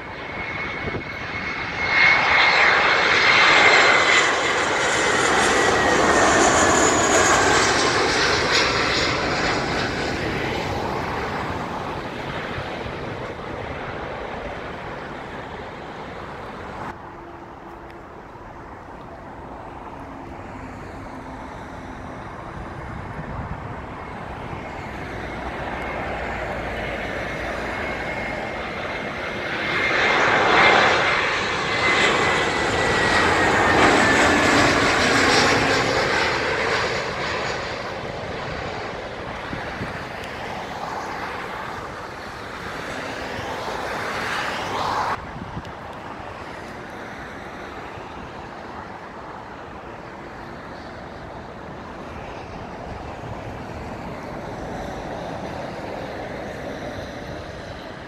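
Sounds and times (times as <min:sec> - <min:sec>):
jet engine whine: 0:00.0 - 0:58.0
jet engines passing overhead: 0:00.0 - 0:58.0.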